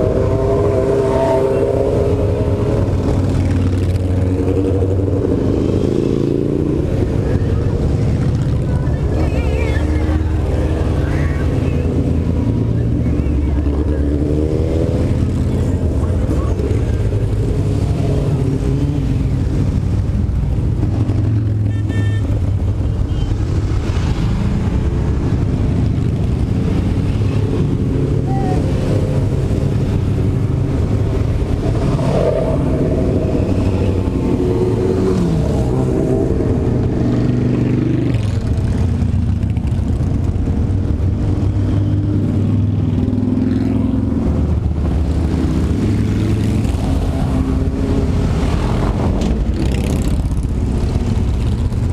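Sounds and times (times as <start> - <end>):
motorcycle engines revving: 0.0 - 51.9
motorcycles riding past: 0.0 - 51.9.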